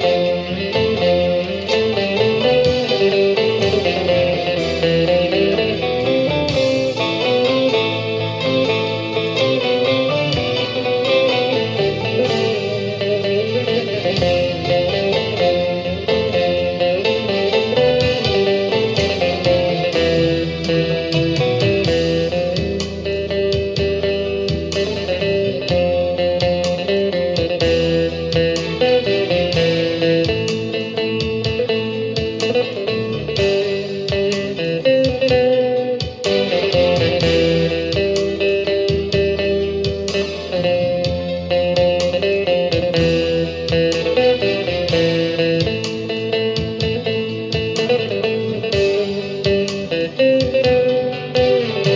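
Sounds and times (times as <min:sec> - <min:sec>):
guitar-led music: 0:00.0 - 0:51.9.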